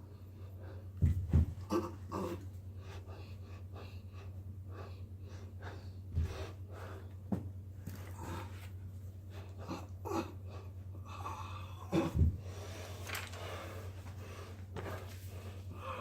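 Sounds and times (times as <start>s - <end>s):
man breathing heavily: 0.0s - 16.0s
steady low hum: 0.0s - 16.0s.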